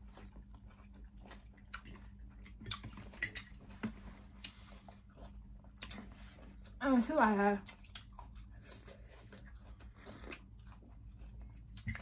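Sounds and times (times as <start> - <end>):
faint chewing: 0.0 - 6.8, 7.5 - 12.0.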